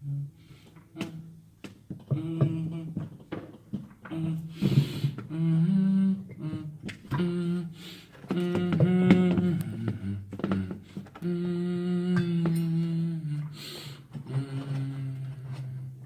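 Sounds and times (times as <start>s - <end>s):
man humming: 0.0s - 1.4s, 2.0s - 16.0s.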